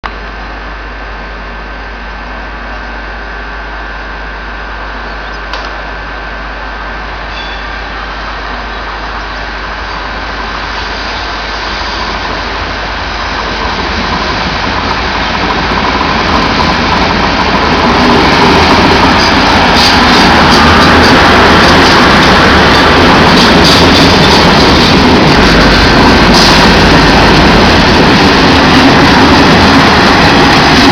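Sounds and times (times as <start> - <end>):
diesel train passing: 0.0 - 30.9.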